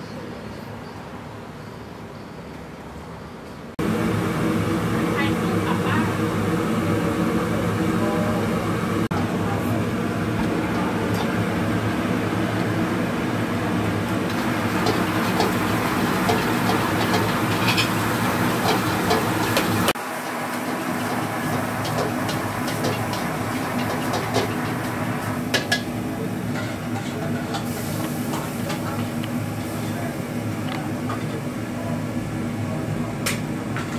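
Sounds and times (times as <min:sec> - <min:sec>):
gas burner roaring: 0:03.8 - 0:33.9.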